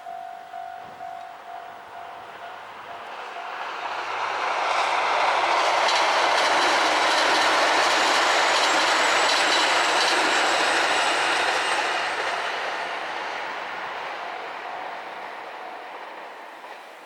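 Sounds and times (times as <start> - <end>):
railcar wheels clattering over rail joints: 2.9 - 17.0.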